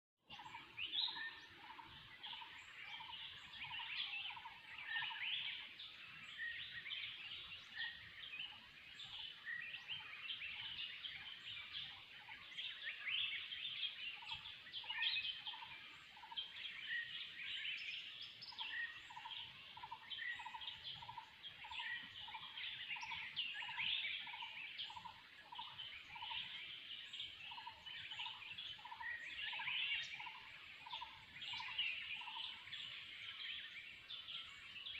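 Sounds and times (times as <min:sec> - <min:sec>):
forest birds chirping and trilling: 0:00.2 - 0:34.9.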